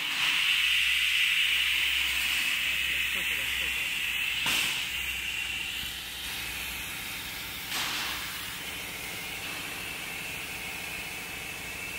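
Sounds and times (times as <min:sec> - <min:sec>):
steady air hiss: 0:00.0 - 0:11.9.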